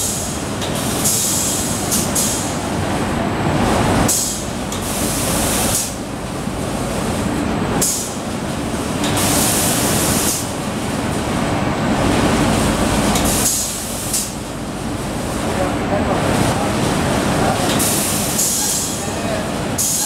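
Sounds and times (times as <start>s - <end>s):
machine drone and hum: 0.0s - 20.0s.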